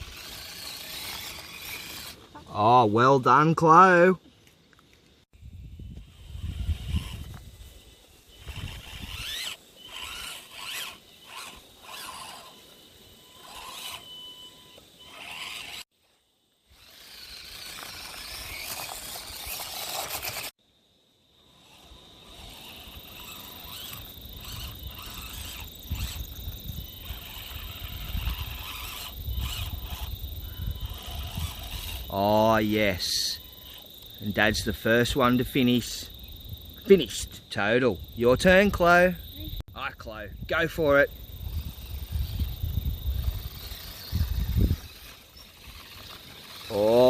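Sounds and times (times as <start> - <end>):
small electric motor whining: 0.0 - 2.5, 5.3 - 20.6, 21.4 - 37.0, 40.6 - 47.0
tyres scraping over dirt: 0.0 - 2.7, 4.3 - 16.0, 16.7 - 20.5, 21.5 - 36.0, 41.2 - 47.0.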